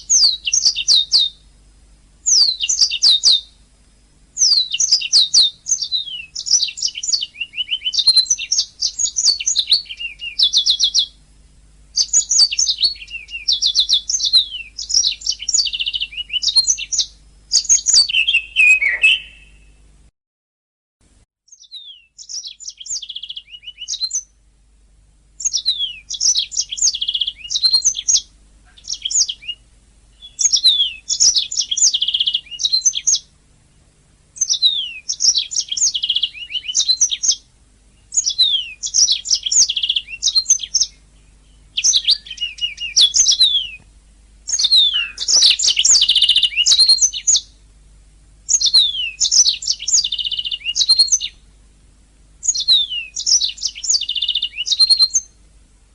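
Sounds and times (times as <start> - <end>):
canary singing trills: 0.0 - 1.5, 2.2 - 3.6, 4.4 - 11.2, 11.9 - 19.8, 21.5 - 24.4, 25.4 - 33.3, 34.4 - 47.7, 48.4 - 51.5, 52.4 - 55.5.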